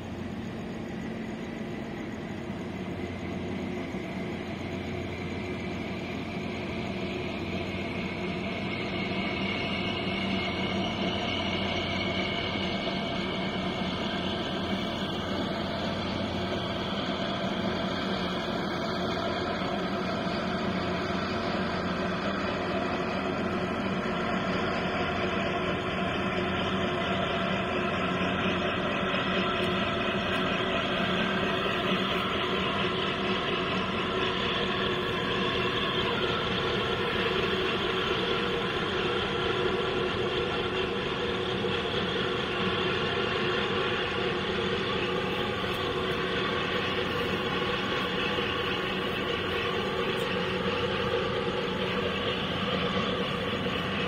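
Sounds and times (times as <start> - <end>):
marine diesel engines droning: 0.0 - 54.0.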